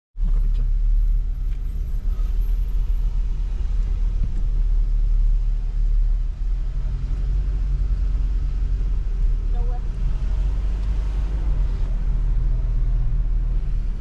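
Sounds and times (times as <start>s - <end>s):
car driving rumble: 0.2s - 14.0s.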